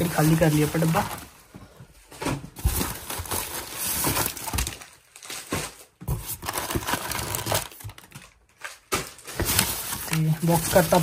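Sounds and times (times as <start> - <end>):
paper and plastic rustling: 0.0 - 11.0.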